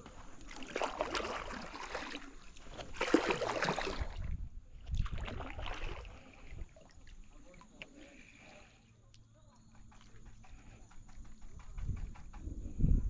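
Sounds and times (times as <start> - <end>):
water splashing around kayak: 0.0 - 12.3.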